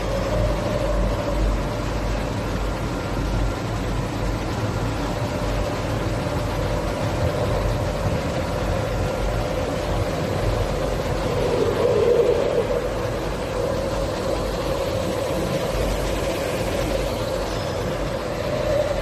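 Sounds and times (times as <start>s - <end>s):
machine drone with hum: 0.0s - 19.0s.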